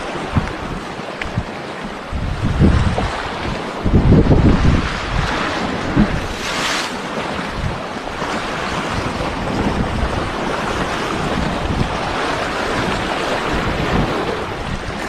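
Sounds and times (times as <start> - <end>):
waves breaking against rocks: 0.0 - 15.0
wind buffeting microphone: 0.0 - 15.0.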